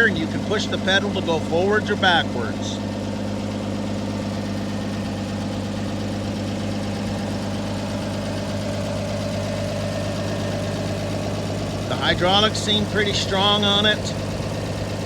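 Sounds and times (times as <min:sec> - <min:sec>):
backhoe engine idling: 0:00.0 - 0:15.0.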